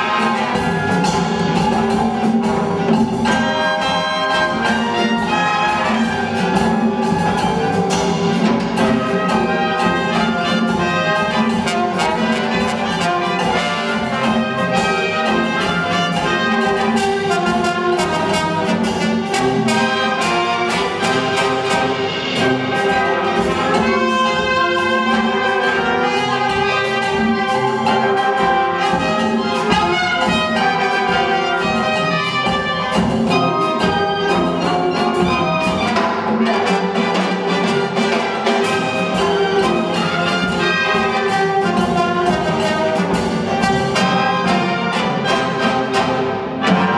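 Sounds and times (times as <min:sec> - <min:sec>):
brass band playing salsa: 0:00.0 - 0:46.9
percussion beat: 0:00.0 - 0:46.9.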